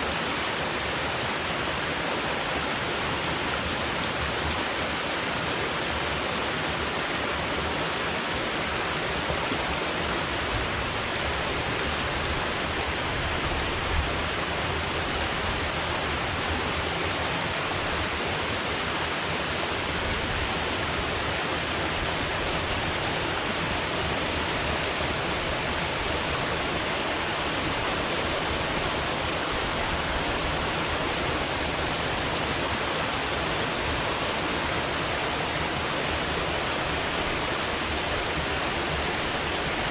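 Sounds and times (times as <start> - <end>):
water rushing from spillway: 0.0 - 39.9.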